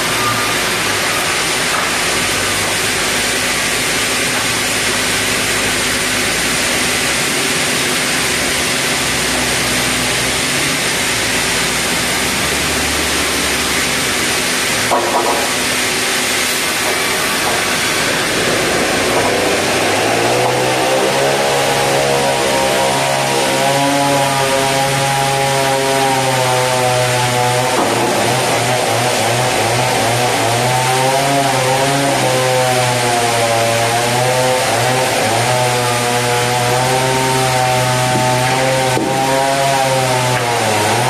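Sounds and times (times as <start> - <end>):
band saw running: 0.0 - 41.0.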